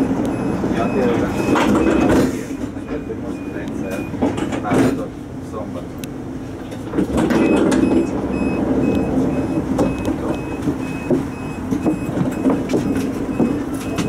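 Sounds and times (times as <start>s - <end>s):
tram rumble: 0.0s - 14.0s.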